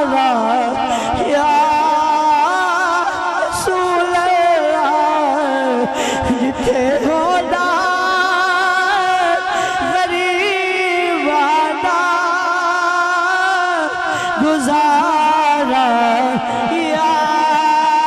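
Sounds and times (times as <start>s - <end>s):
man singing through microphone: 0.0s - 18.0s.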